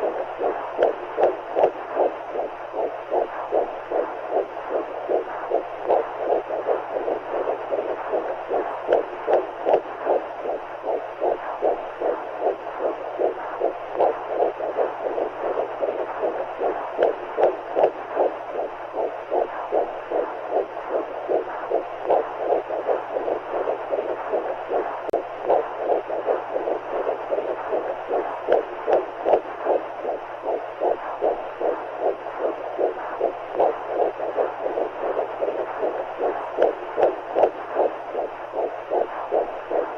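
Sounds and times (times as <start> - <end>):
steady low hum: 0.0 - 39.9
whooshing heartbeat: 0.0 - 39.9.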